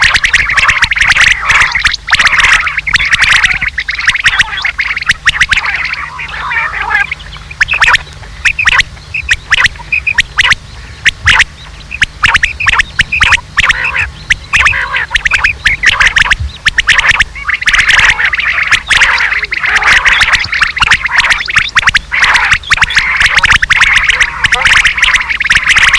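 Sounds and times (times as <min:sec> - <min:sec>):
quail calling: 0:00.0 - 0:25.9
steady low hum: 0:00.0 - 0:25.9.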